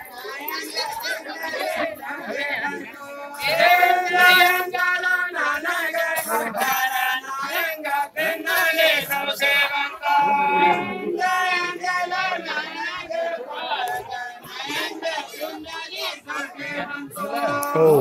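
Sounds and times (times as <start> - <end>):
voices singing together: 0.0 - 18.0.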